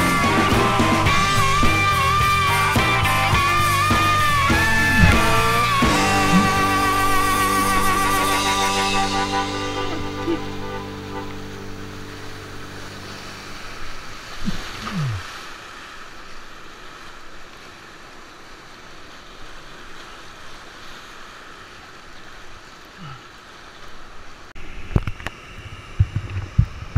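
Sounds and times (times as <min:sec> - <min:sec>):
whitewater rapids splashing: 0:00.0 - 0:24.8.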